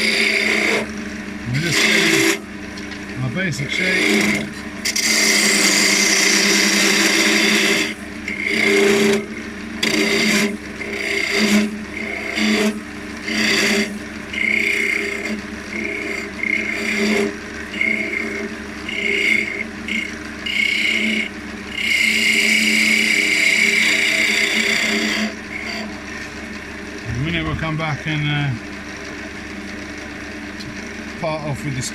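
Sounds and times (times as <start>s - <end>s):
turning tool cutting wood: 0.0s - 31.9s
wood lathe running: 0.0s - 31.9s.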